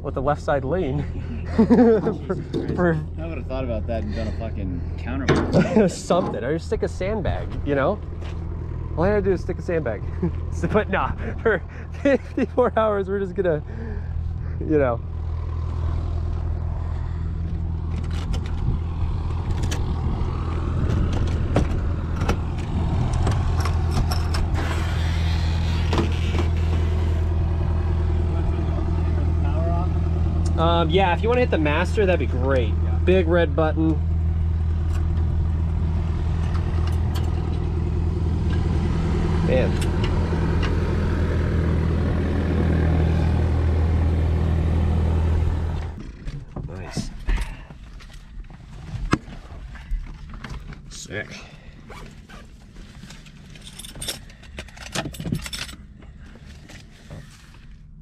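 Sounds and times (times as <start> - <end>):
low engine drone: 0.0 - 51.9.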